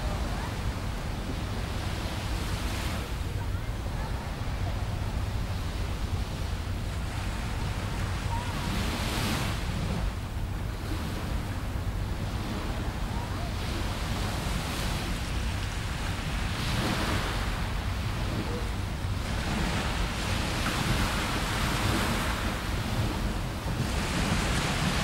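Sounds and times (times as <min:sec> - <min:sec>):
small waves breaking on beach: 0:00.0 - 0:25.0
wind on the microphone: 0:00.0 - 0:25.0.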